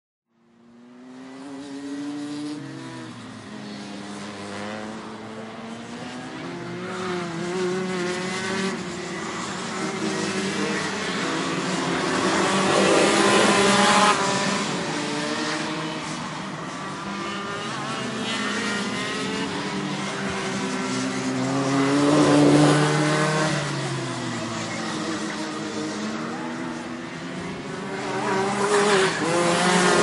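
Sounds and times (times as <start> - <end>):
racing engines revving past: 0.7 - 30.0.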